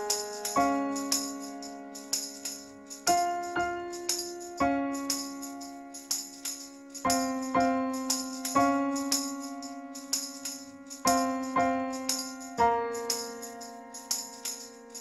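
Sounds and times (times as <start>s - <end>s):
jingling tambourine beat: 0.0s - 15.0s
keyboard chords: 0.0s - 15.0s.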